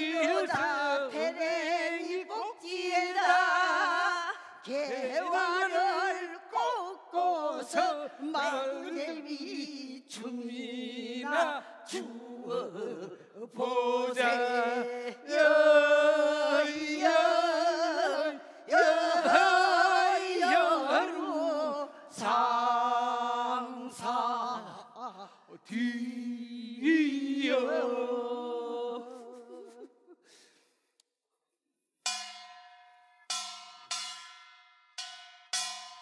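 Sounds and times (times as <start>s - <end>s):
folk singing with held notes: 0.0s - 30.4s.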